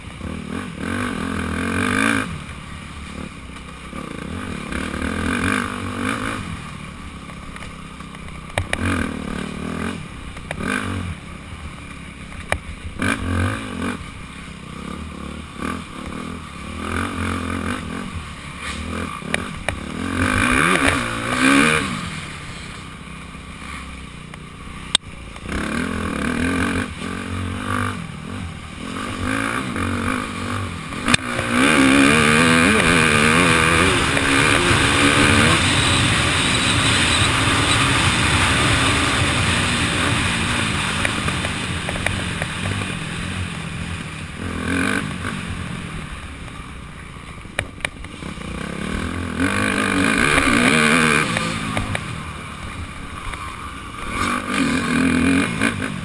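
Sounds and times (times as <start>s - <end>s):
dirt bike engine revving: 0.0s - 46.6s, 48.1s - 56.0s.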